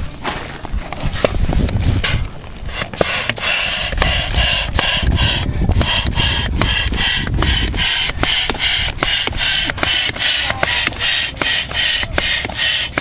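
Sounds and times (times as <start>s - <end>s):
rhythmic rasping strokes: 1.0s - 13.0s.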